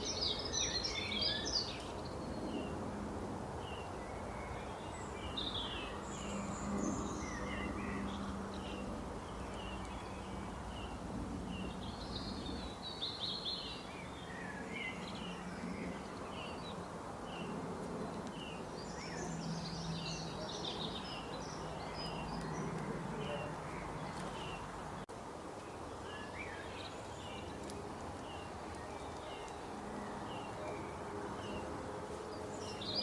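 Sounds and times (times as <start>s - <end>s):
birds chirping: 0.0s - 2.9s, 3.6s - 33.0s.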